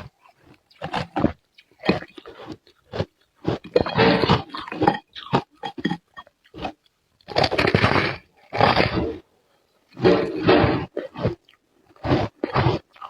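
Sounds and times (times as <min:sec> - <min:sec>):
ice being chewed: 0:00.0 - 0:09.2, 0:09.9 - 0:13.0.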